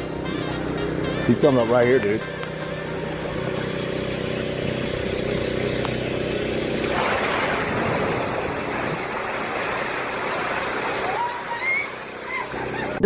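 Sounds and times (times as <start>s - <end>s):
broad rushing noise: 0.0s - 13.0s
engine idling: 0.0s - 13.0s.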